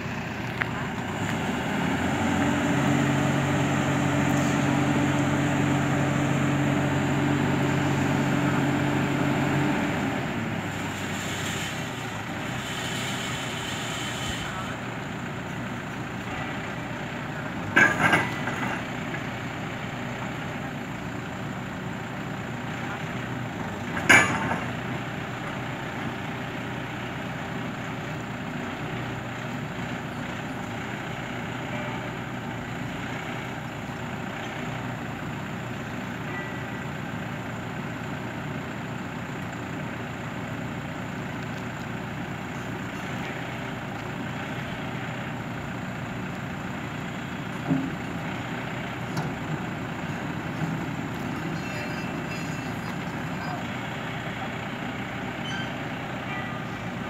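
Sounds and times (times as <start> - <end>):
diesel engine and hydraulics droning: 0.0 - 57.0.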